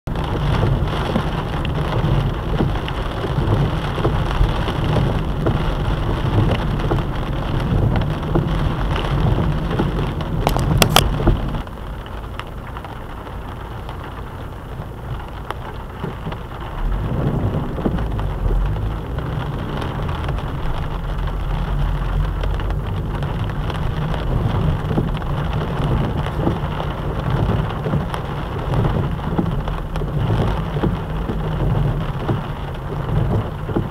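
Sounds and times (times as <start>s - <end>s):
low car rumble: 0.1s - 33.9s
rain and wet tyres hissing: 0.1s - 33.9s.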